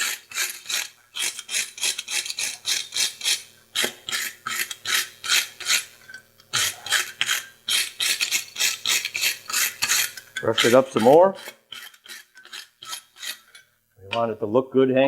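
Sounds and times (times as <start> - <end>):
brush scrubbing metal tongs: 0.0 - 13.7.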